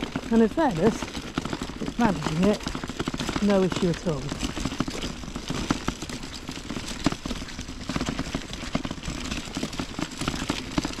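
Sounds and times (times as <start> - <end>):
footsteps crunching on gravel: 0.0 - 11.0
stroller wheels rolling over stones: 0.0 - 11.0.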